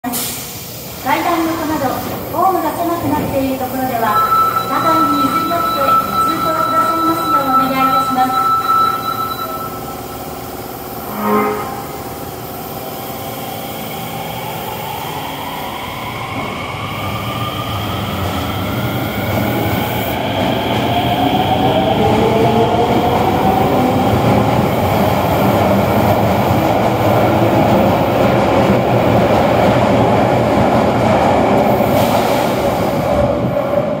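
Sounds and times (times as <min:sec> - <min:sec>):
train running noise: 0:00.0 - 0:34.0.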